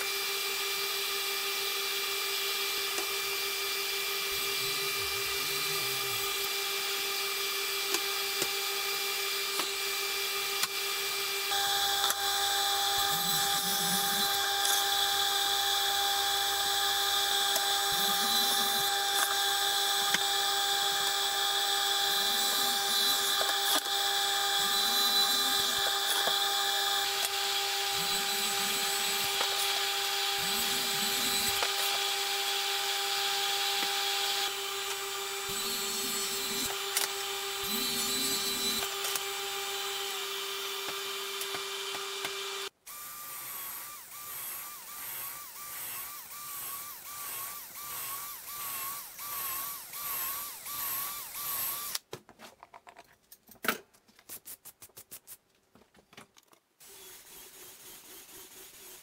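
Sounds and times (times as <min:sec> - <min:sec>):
table saw cutting wood: 0:00.0 - 0:52.0, 0:56.8 - 0:59.0.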